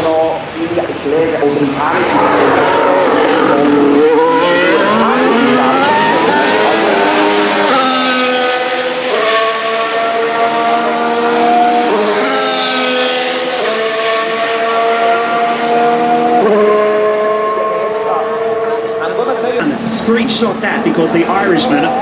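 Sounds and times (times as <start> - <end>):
racing car engine at high revs: 0.0 - 22.0.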